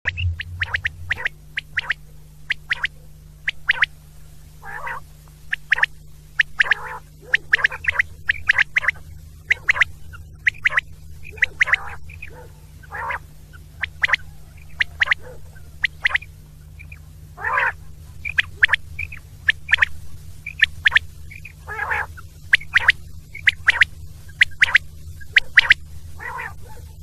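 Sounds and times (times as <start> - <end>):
steady low hum: 0.0 - 27.0
quail calling: 0.1 - 27.0.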